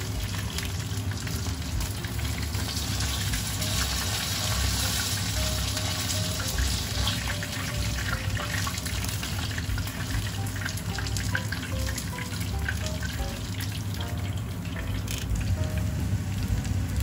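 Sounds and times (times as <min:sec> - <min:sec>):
oil sizzling with pops: 0:00.0 - 0:17.0
soft background music: 0:00.0 - 0:17.0.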